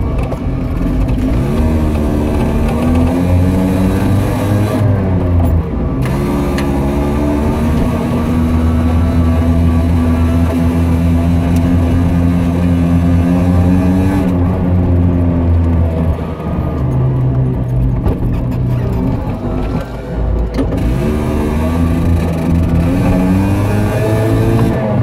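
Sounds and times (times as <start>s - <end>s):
car engine inside cabin: 0.0s - 25.0s.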